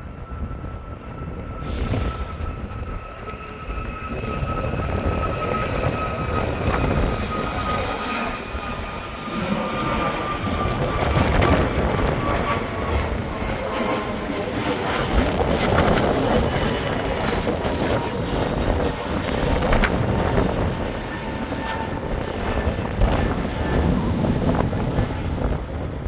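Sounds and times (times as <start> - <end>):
jet airliner passing by: 0.0 - 26.0.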